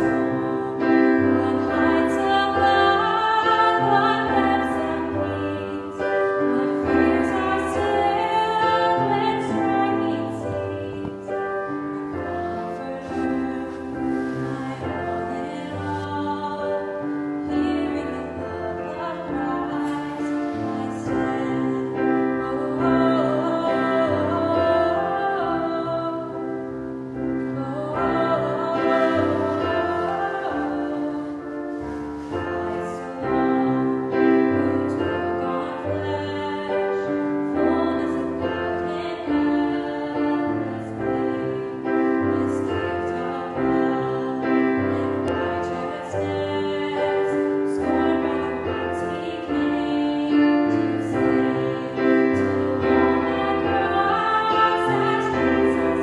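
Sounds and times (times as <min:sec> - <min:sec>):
people singing: 0:00.0 - 0:11.4, 0:12.4 - 0:26.3, 0:27.6 - 0:31.4, 0:32.2 - 0:56.0
piano accompaniment: 0:00.0 - 0:56.0.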